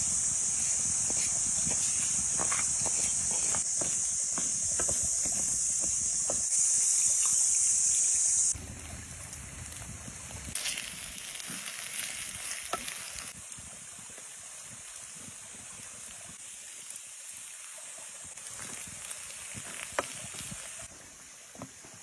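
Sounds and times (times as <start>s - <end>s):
food sizzling in a pan: 0.0s - 8.6s, 9.7s - 20.9s.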